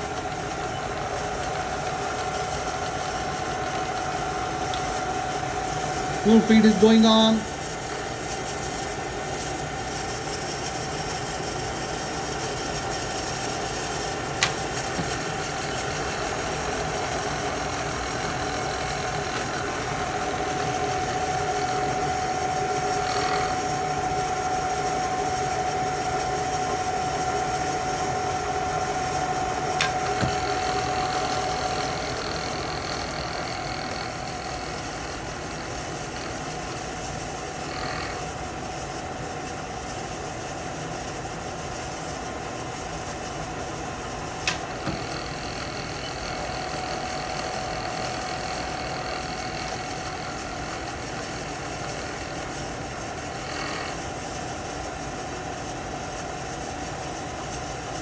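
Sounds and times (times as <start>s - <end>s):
milling machine humming and whining: 0.0s - 58.0s.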